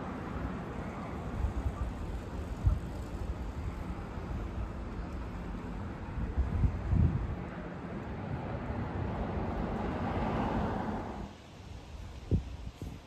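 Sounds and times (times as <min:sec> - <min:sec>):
low rumble of traffic: 0:00.0 - 0:13.0
wind buffeting microphone: 0:01.2 - 0:13.0.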